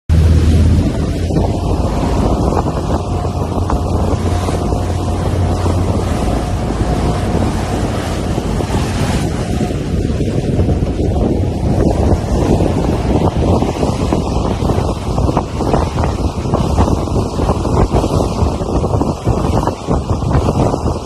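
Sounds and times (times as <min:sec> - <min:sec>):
low rumble: 0:00.1 - 0:21.0
wind blowing across microphone: 0:00.1 - 0:21.0.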